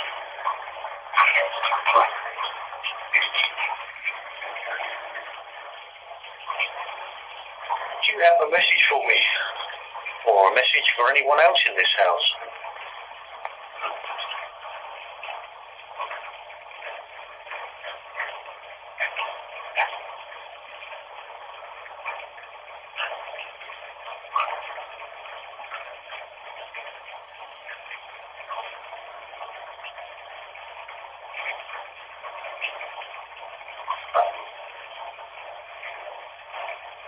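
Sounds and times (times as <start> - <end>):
water splashes and ticks: 0.0 - 37.0
running bathwater hiss: 1.3 - 12.4, 13.8 - 37.0.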